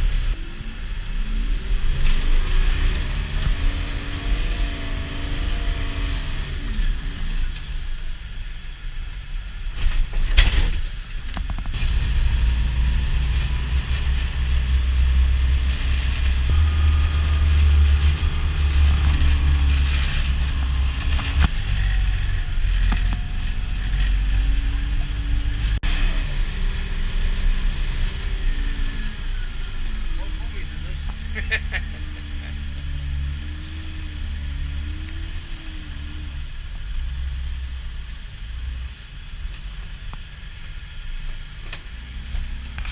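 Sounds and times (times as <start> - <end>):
vehicle engine and road rumble: 0.0 - 42.9.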